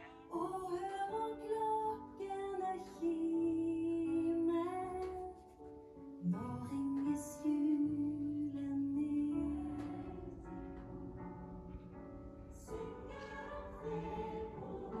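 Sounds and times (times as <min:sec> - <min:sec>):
slow music with long held notes: 0:00.0 - 0:15.0.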